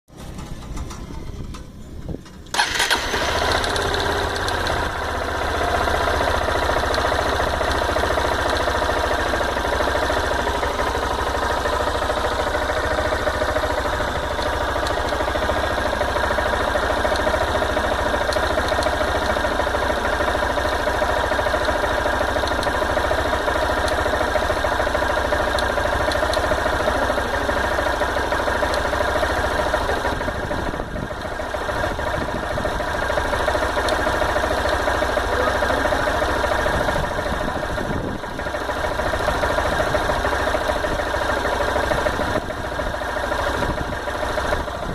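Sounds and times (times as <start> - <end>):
motorcycle engine starting and idling: 0.1 - 44.9.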